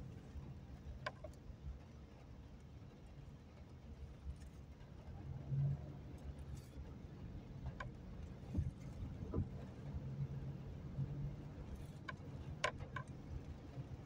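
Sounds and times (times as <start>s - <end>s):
car rumbling in traffic: 0.0s - 14.0s.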